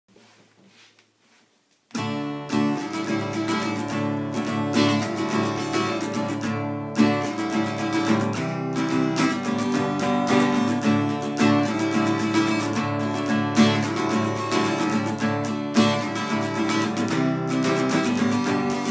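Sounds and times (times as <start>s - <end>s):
acoustic guitar strumming chords: 2.0s - 18.9s.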